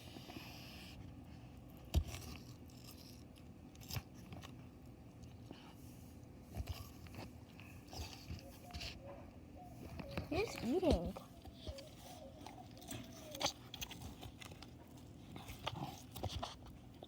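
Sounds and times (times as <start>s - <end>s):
tortoise crunching watermelon rind: 0.0s - 17.0s.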